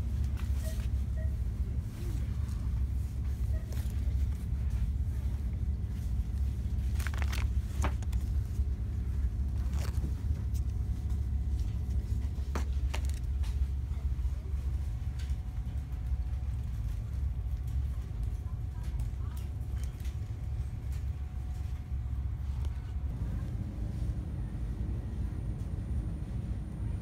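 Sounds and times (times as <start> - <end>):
store background rumble: 0.0 - 27.0.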